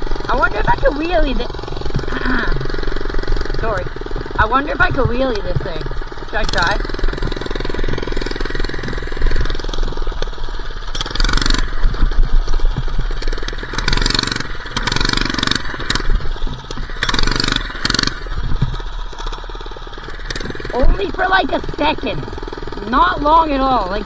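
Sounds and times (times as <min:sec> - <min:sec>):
small motorbike engine revving: 0:00.0 - 0:24.0.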